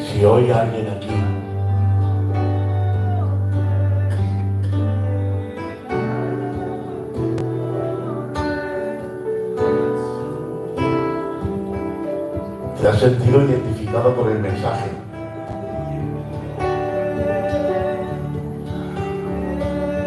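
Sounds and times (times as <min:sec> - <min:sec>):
slow worship music chords: 0:00.0 - 0:20.0.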